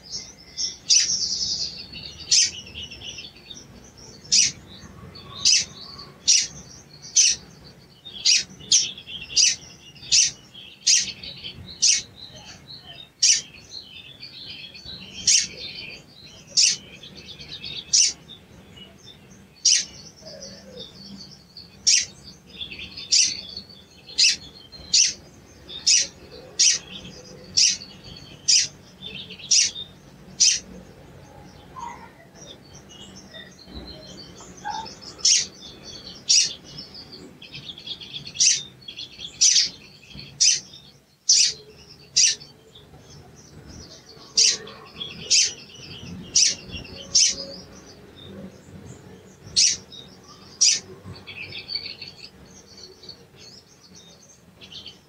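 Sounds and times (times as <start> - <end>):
bird twittering: 0.0 - 55.0.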